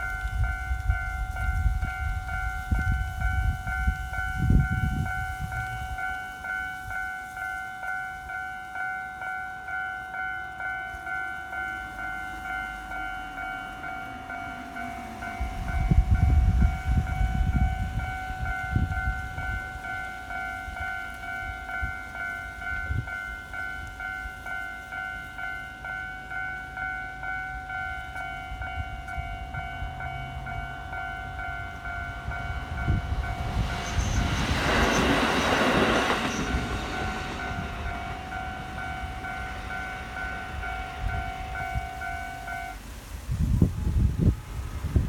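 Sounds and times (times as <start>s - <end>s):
diesel railcar passing: 0.0s - 45.0s
level-crossing warning bell: 0.0s - 45.0s.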